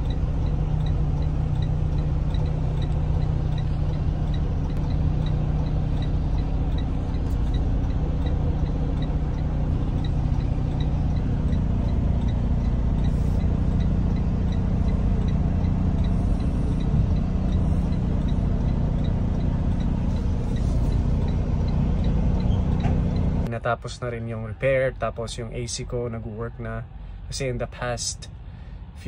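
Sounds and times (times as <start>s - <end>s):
light ticking: 0.0s - 23.5s
diesel truck engine idling: 0.0s - 29.0s.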